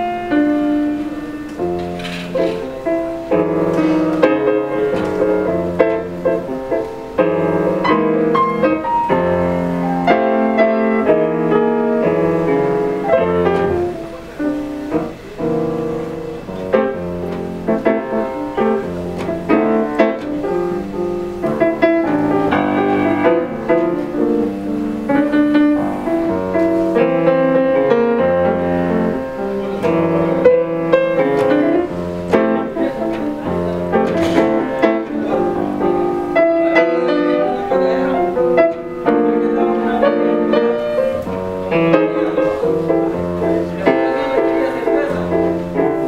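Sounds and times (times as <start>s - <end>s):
grand piano playing: 0.0s - 46.0s.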